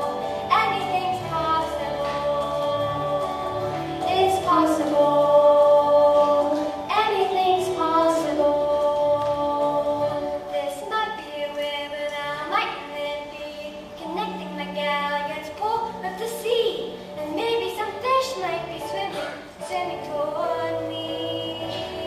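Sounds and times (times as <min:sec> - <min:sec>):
girl singing: 0:00.0 - 0:22.0
quiet musical accompaniment: 0:00.0 - 0:22.0.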